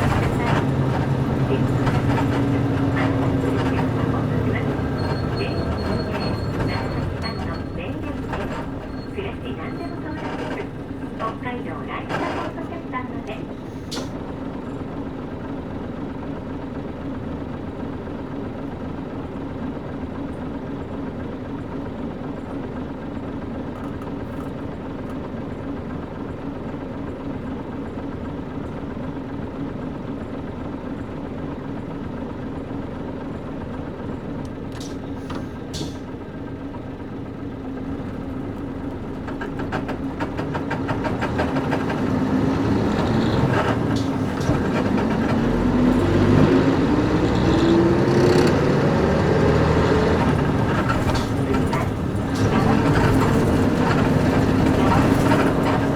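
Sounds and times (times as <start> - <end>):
bus diesel engine: 0.0 - 55.9.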